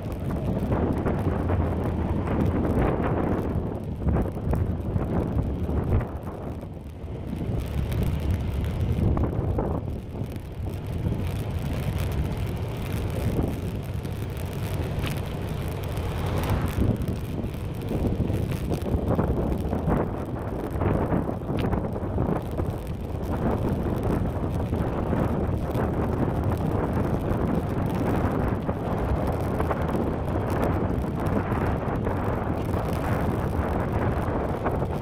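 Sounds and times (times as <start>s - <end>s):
low road rumble: 0.0s - 35.0s
wind buffeting microphone: 0.0s - 35.0s.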